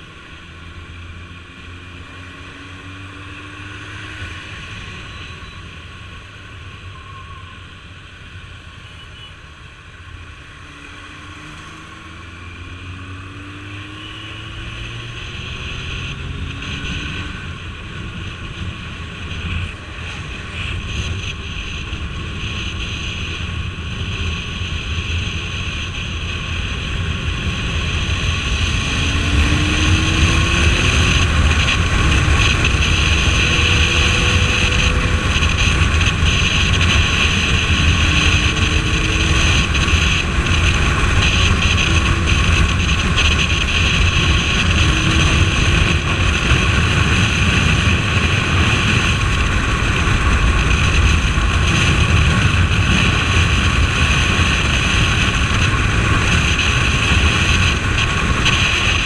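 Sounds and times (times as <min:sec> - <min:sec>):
motorcycle engine running: 0:00.0 - 0:59.0
wind rush on microphone: 0:11.4 - 0:59.0.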